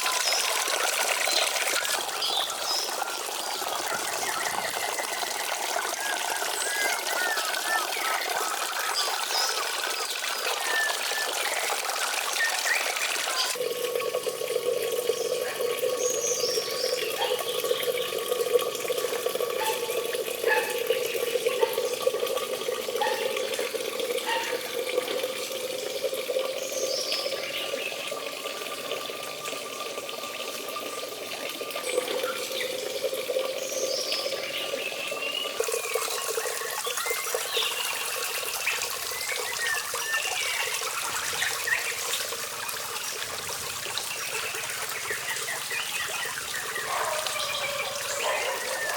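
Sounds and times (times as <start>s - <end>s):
water running: 0.0s - 48.9s.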